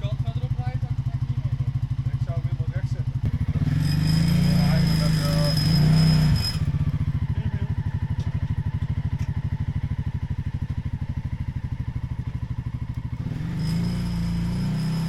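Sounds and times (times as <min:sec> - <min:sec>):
tractor engine chugging: 0:00.0 - 0:15.0.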